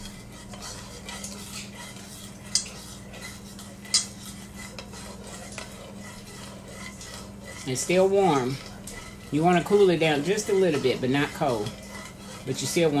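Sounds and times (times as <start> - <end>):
spoon scraping metal pot: 0.0 - 13.0
steady low hum: 0.0 - 13.0.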